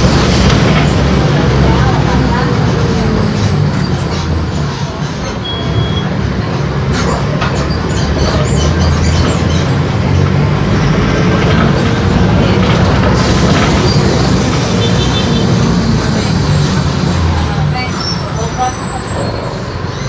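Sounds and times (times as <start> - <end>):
bus body rattling and clicking: 0.0 - 19.9
diesel bus engine rumbling: 0.0 - 20.0.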